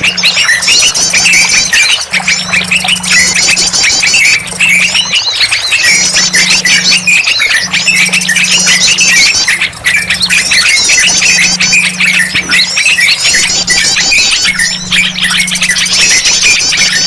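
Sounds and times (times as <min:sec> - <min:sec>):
birds chattering in alarm: 0:00.0 - 0:17.0
low hum: 0:00.0 - 0:17.0.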